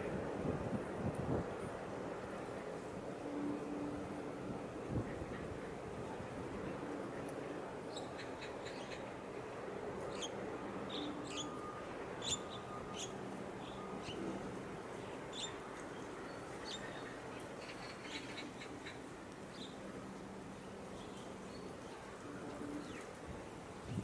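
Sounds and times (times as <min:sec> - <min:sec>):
low harbour and engine rumble: 0:00.0 - 0:24.0.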